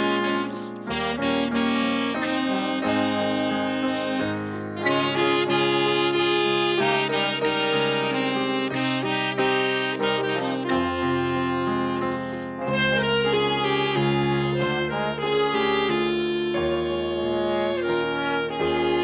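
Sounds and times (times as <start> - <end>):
orchestra playing held chords: 0.0 - 19.0.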